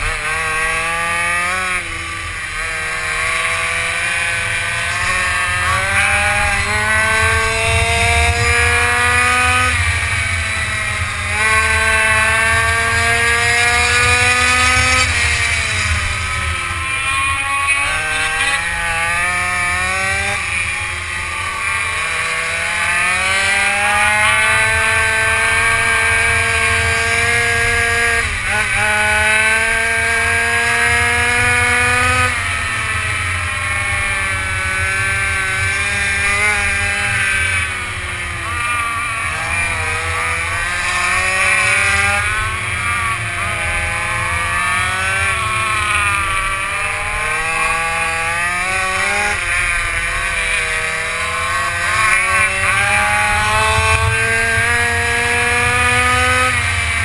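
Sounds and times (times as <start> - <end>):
racing quad engine revving: 0.0 - 57.0.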